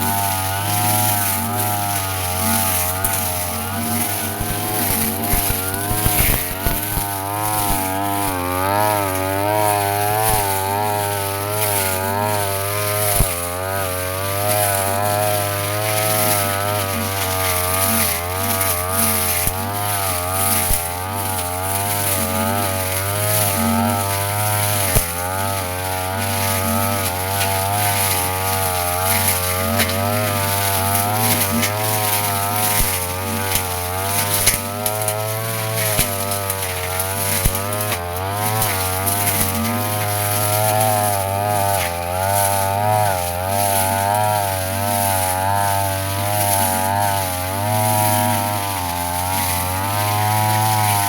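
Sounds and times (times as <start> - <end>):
brush cutter engine cutting grass: 0.0 - 51.0.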